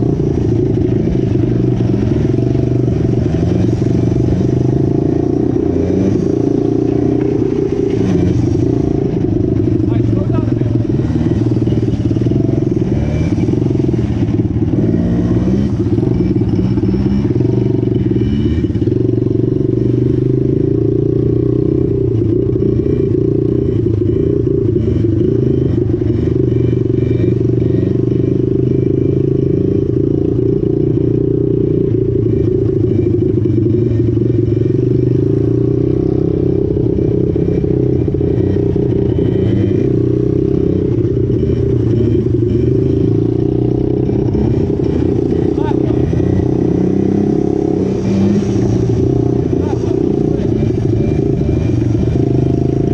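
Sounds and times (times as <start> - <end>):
mini-bike engine running: 0.0 - 52.9.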